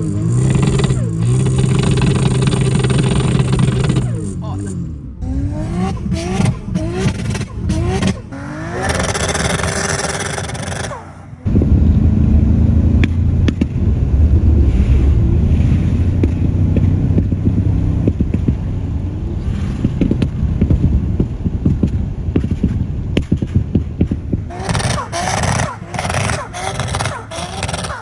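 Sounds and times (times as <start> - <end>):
exhaust pops and cracks: 0.0 - 4.8, 5.6 - 28.0
tuned car engine rumbling: 0.0 - 28.0.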